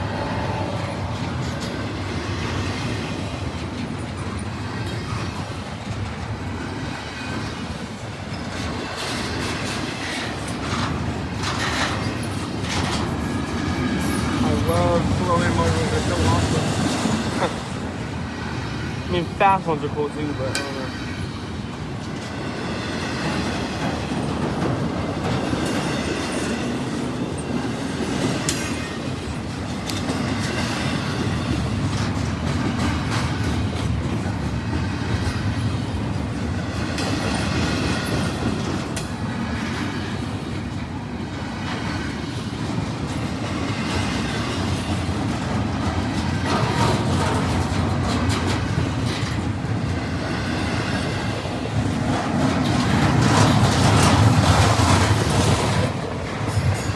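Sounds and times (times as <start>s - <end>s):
train wheels clicking over rail joints: 0.6s - 18.9s, 20.5s - 56.9s.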